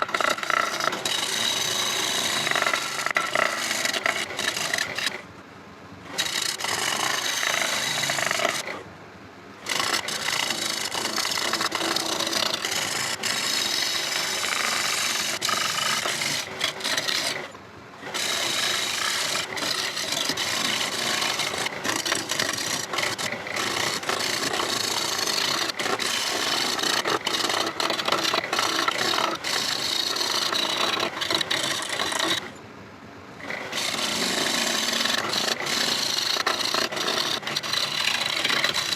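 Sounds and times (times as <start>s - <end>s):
lathe tool scraping wood: 0.0s - 5.3s, 6.1s - 8.8s, 9.6s - 32.6s, 33.4s - 38.9s.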